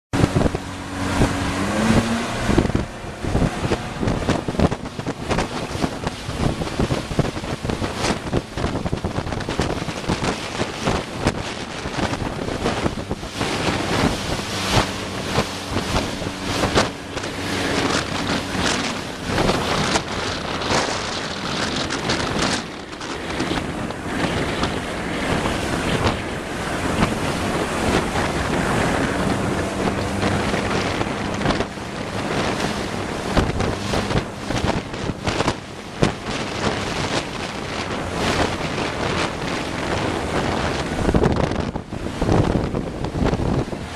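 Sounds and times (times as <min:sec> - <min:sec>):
motorboat engine hum: 0:00.1 - 0:43.9
wind buffeting microphone: 0:00.1 - 0:43.9
splashing water: 0:00.2 - 0:43.9.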